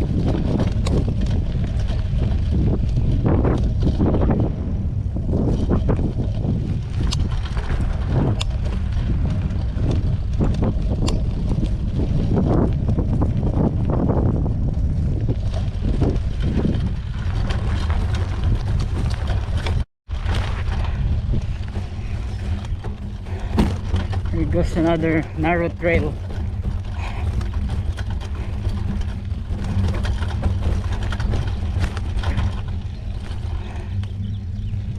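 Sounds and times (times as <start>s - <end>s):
sharp clicks and rattles: 0.0s - 4.5s, 5.4s - 34.9s
tyre and trail rumble: 0.0s - 34.9s
wind buffeting microphone: 0.0s - 34.9s.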